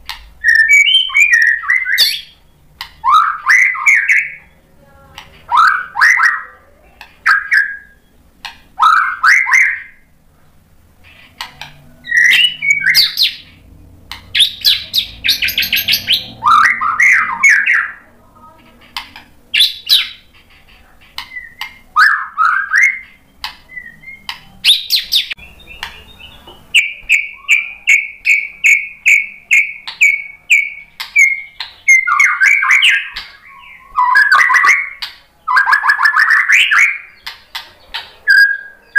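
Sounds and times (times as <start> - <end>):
bird singing whistles and trills: 0.4 - 4.6, 5.5 - 6.6, 7.2 - 8.2, 8.8 - 10.1, 12.0 - 13.6, 14.3 - 18.1, 19.5 - 20.3, 21.2 - 38.9.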